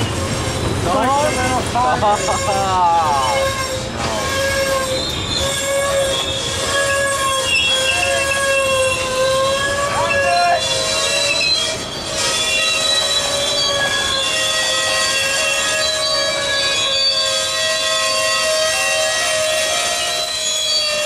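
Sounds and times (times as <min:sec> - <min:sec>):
rumble of rail cars: 0:00.0 - 0:21.0
train wheels squealing on rail: 0:00.0 - 0:21.0.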